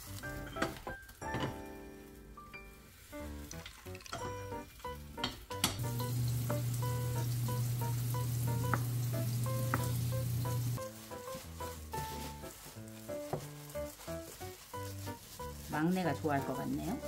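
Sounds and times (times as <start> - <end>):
soft background music: 0.0 - 17.0
omelette sizzling in frying pan: 2.1 - 17.0.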